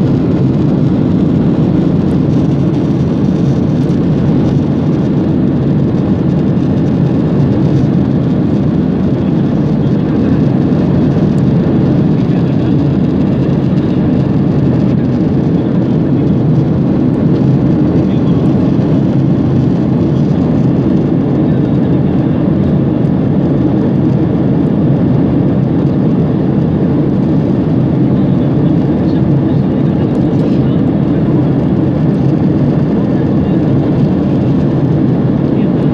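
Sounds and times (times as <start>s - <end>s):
airplane cabin engine noise: 0.0s - 35.9s.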